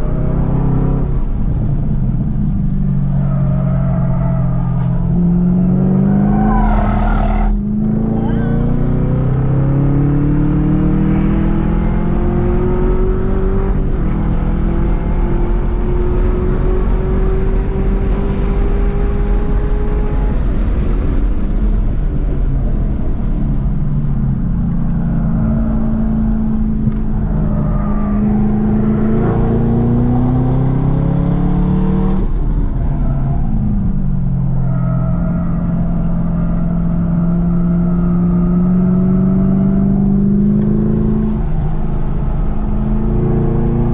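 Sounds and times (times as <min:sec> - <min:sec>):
car engine accelerating: 0:00.0 - 0:43.9
road and wind noise: 0:00.0 - 0:43.9.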